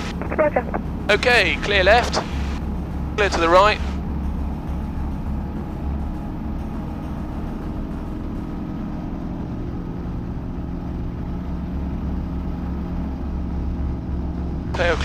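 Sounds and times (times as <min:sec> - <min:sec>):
helicopter engine and rotors droning: 0:00.0 - 0:15.0.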